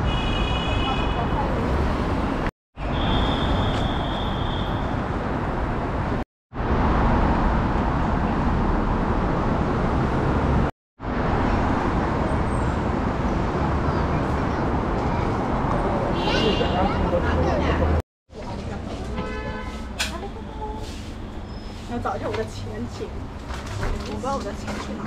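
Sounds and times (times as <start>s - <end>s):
city street traffic: 0.0s - 25.0s.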